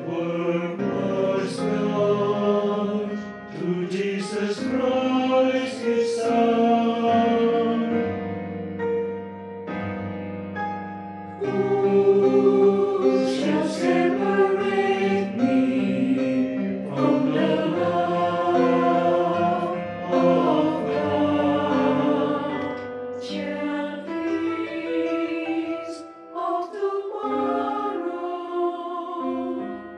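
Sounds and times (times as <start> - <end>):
choir singing gospel song: 0.0 - 8.3, 11.4 - 29.9.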